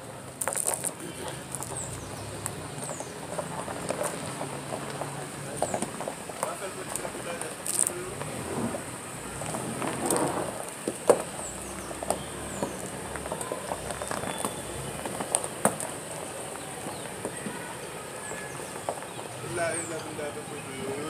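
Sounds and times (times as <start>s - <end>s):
footsteps crunching on gravel: 0.4s - 20.0s.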